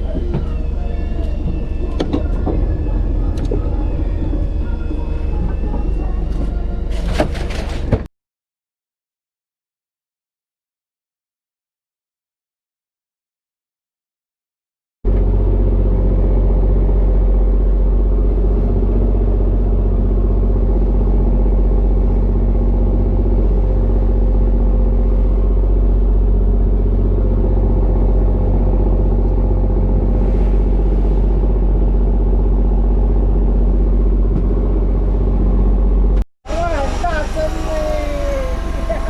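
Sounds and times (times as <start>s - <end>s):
boat engine droning: 0.0s - 8.0s, 15.1s - 39.0s.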